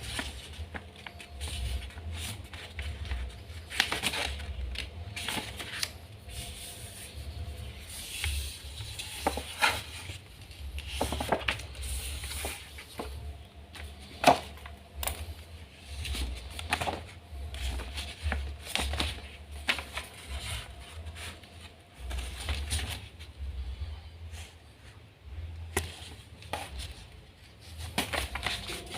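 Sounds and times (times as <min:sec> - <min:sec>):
paper being folded: 0:00.0 - 0:23.3, 0:26.4 - 0:28.9.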